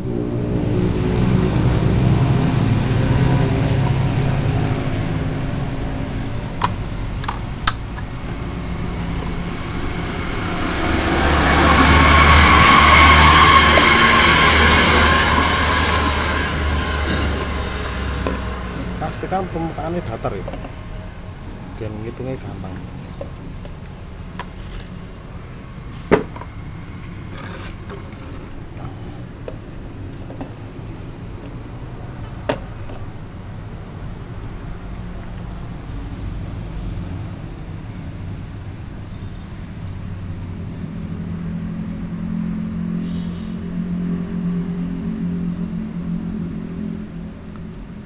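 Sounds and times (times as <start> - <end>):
motor vehicle running: 0.0 - 48.0.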